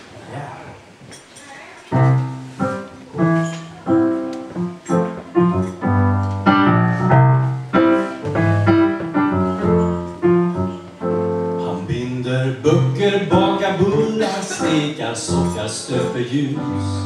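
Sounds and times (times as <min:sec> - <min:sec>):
digital piano chords: 0:01.9 - 0:17.0.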